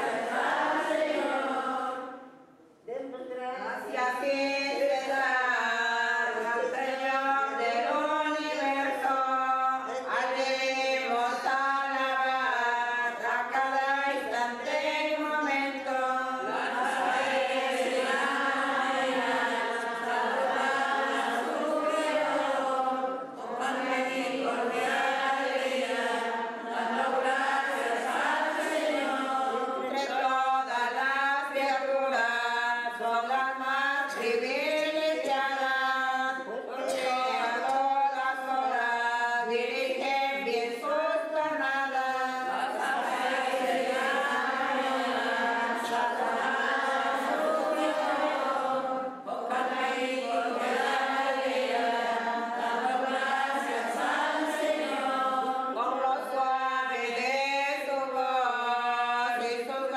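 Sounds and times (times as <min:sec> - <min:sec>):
congregation singing a hymn: 0:00.0 - 0:02.5, 0:03.6 - 0:59.9.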